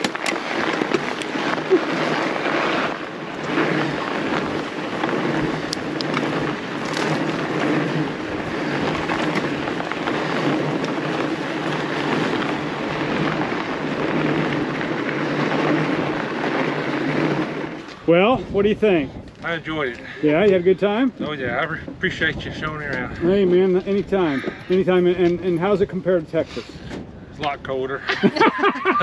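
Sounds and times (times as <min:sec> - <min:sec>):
bike tyres hissing on snow: 0:00.0 - 0:20.8, 0:24.0 - 0:27.3.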